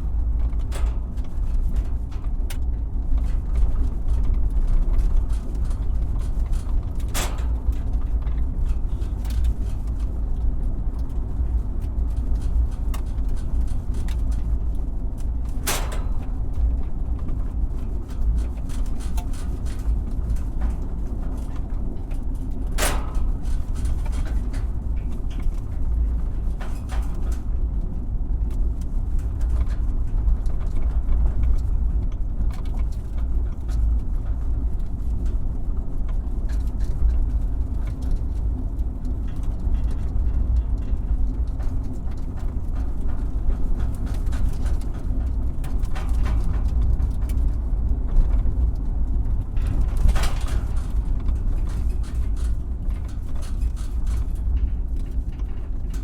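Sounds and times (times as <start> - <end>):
truck knocking and rattling: 0.0 - 56.0
truck rumbling on rough road: 0.0 - 56.0.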